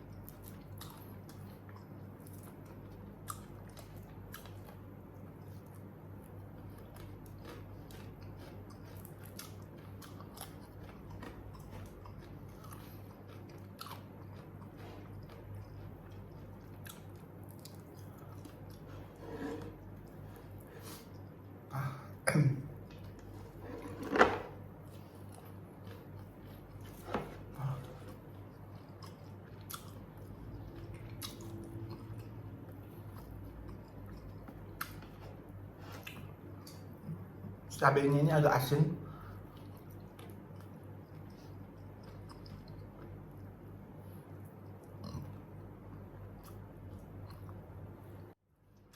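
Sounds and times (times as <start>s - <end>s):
person chewing crunchy food: 0.0s - 21.6s, 22.8s - 37.4s, 39.1s - 48.9s.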